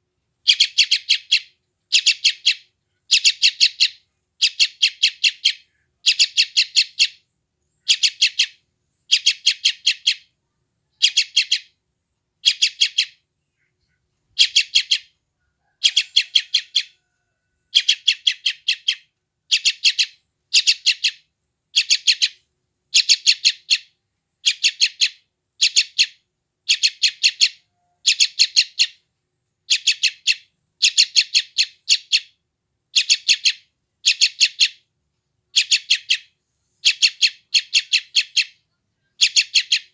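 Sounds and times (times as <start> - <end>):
bird chick begging calls: 0.4 - 7.2, 7.8 - 10.3, 10.9 - 11.8, 12.4 - 13.2, 14.3 - 29.0, 29.7 - 34.8, 35.5 - 39.9.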